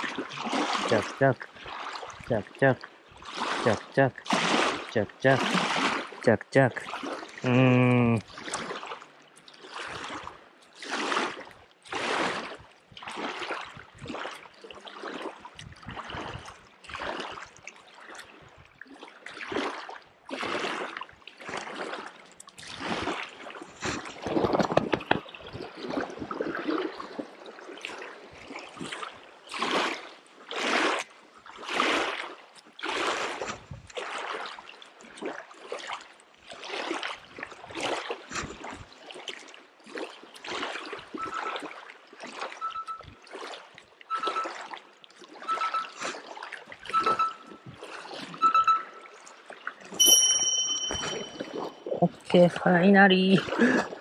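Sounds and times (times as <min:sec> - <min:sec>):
waves lapping against rocks: 0:00.0 - 0:07.5, 0:08.1 - 0:50.0.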